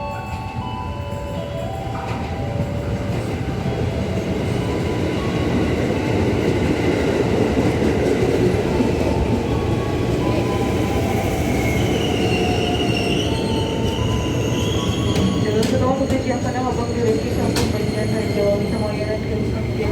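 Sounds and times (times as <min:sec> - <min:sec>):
electric train rumbling on rails: 0:00.0 - 0:19.9.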